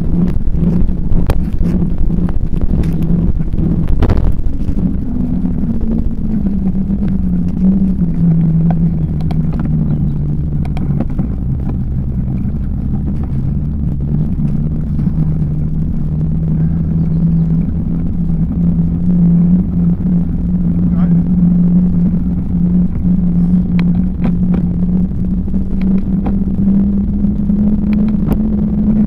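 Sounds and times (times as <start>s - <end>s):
bicycle tyres humming on tarmac: 0.0s - 29.0s
low rumble: 0.0s - 29.0s.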